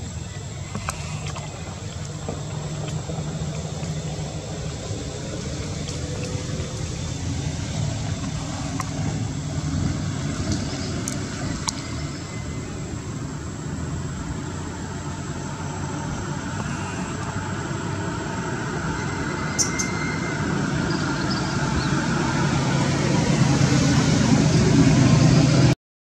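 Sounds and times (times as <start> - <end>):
low engine hum: 0.0 - 25.8.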